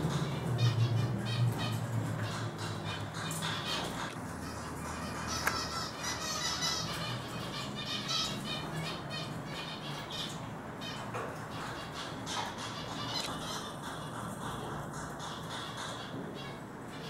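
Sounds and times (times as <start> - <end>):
siskins twittering: 0.0 - 17.0.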